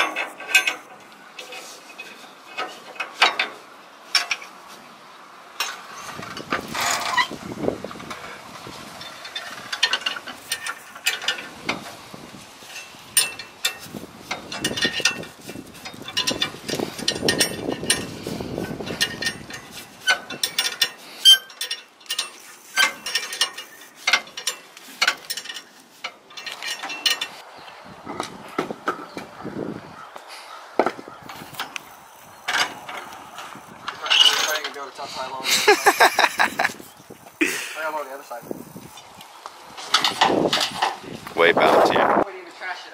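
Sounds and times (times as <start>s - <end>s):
hand tools clanking on metal: 0.0s - 4.6s, 5.6s - 7.4s, 8.0s - 27.4s, 30.8s - 38.6s, 39.8s - 42.2s.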